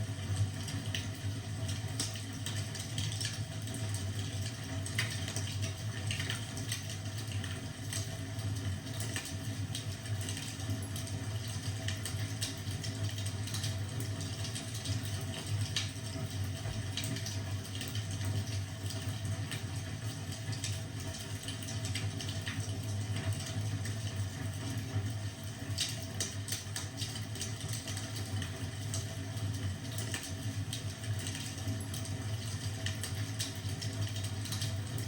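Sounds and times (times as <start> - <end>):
fireplace fire crackling: 0.1 - 10.6, 11.3 - 35.0.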